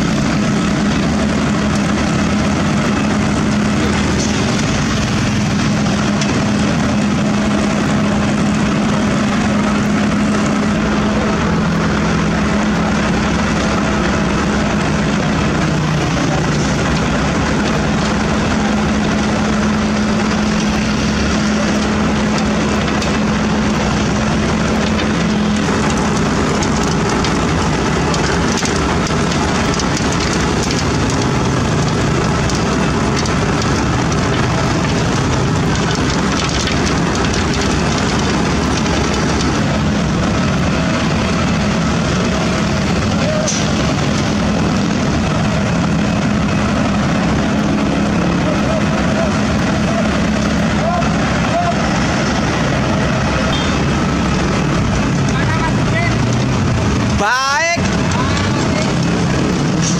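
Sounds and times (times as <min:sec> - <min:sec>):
diesel engine under load: 0:00.0 - 0:59.9
low engine hum: 0:00.0 - 0:59.9
milling machine grinding asphalt: 0:00.0 - 0:59.9.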